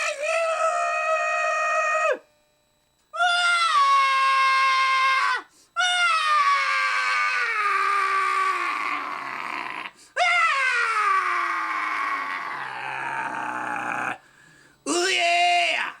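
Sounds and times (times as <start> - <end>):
person screaming wails: 0.0 - 2.2, 3.2 - 14.2.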